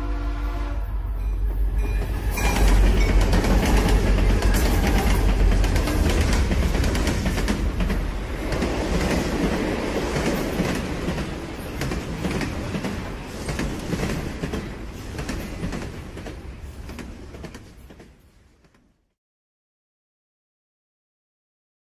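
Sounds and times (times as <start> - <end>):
train running on rails: 0.0 - 19.1.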